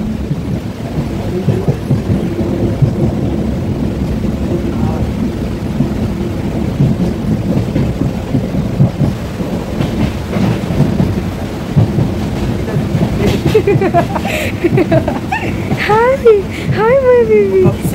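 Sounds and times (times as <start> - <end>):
train carriage rumbling on track: 0.0 - 17.9.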